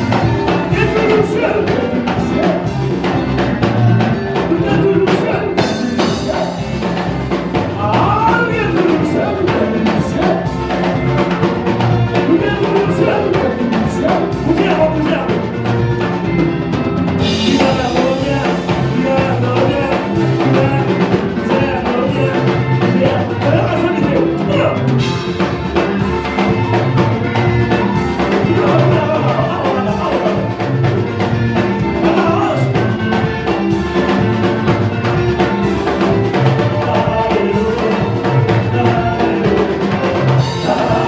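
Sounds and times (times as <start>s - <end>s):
person singing: 0.0s - 15.7s, 17.2s - 25.2s, 25.8s - 41.0s
band playing: 0.0s - 41.0s.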